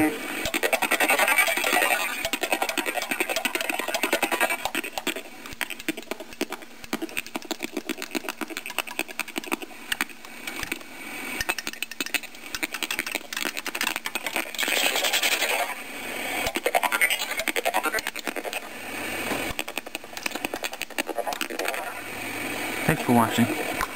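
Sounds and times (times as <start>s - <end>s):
glitchy electronic clicks and buzzes: 0.0s - 15.8s, 16.4s - 18.8s, 19.4s - 22.1s
noisy hiss: 0.0s - 23.9s.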